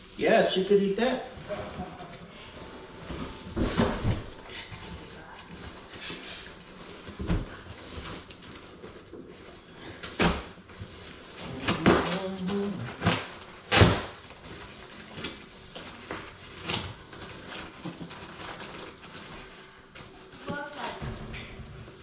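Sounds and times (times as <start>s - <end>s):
cardboard rustling: 1.0s - 20.9s.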